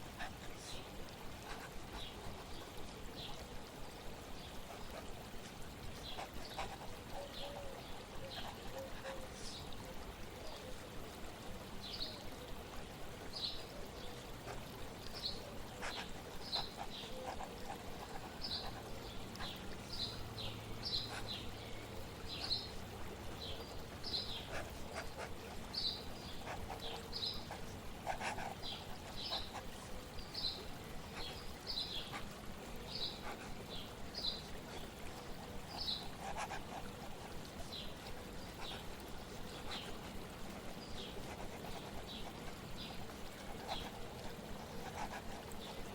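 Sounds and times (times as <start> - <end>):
songbird chirping: 0.0 - 45.9
water trickling: 0.0 - 45.9.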